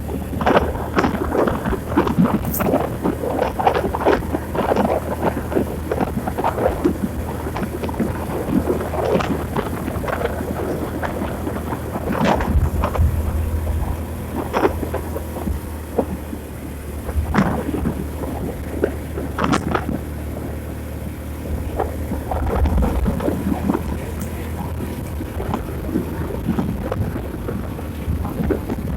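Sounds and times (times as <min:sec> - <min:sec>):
vehicle rumble on road: 0:00.0 - 0:28.9
wind buffeting microphone: 0:00.0 - 0:28.9.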